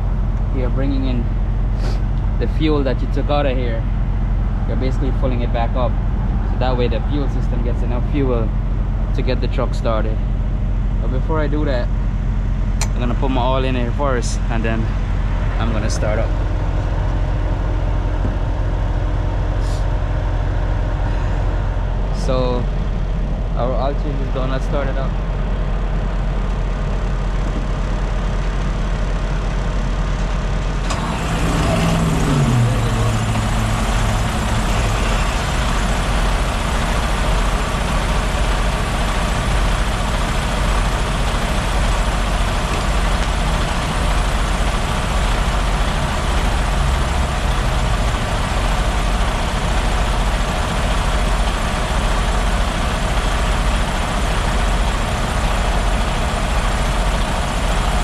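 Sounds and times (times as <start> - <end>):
diesel engine starting and idling: 0.0 - 58.0.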